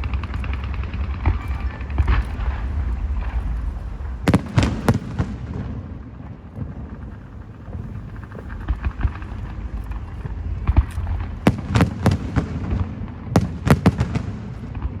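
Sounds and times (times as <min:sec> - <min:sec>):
low rumble: 0:00.0 - 0:13.5
fireworks bangs: 0:00.0 - 0:15.0
small fireworks pops: 0:00.0 - 0:15.0.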